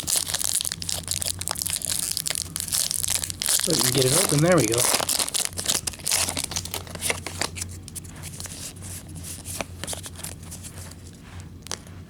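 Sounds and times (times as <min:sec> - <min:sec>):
trading cards rustling: 0:00.0 - 0:12.0.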